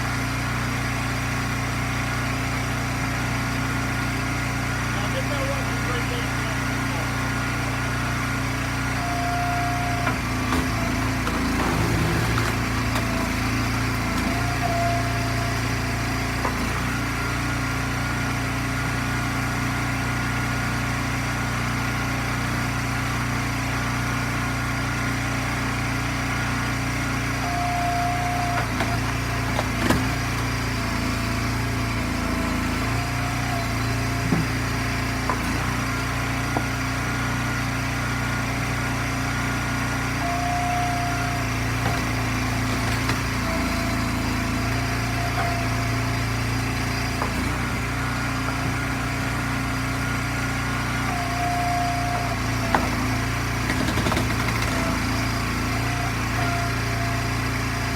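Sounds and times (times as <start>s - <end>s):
small gas engine running: 0.0s - 57.9s.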